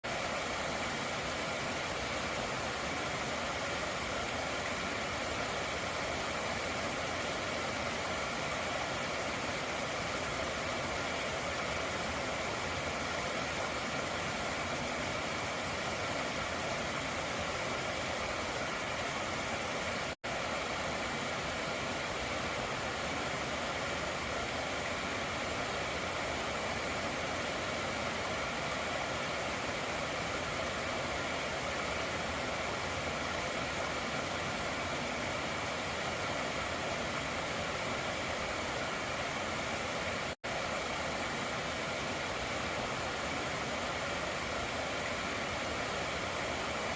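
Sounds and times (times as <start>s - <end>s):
stream water rushing: 0.0s - 46.9s.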